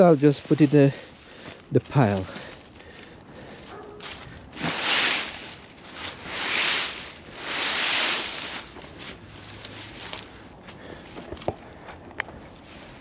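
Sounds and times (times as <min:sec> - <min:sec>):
dry vine leaves rustling: 0:00.0 - 0:13.0.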